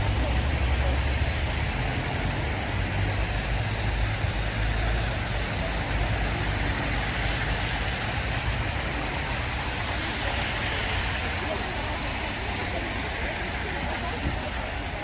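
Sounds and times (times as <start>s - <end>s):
low traffic rumble: 0.0s - 15.0s
street hiss: 0.0s - 15.0s.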